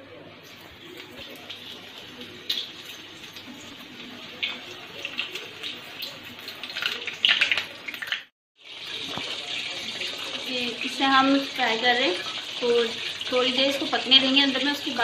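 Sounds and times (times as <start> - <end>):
chicken deep-frying in hot oil: 0.0 - 15.0.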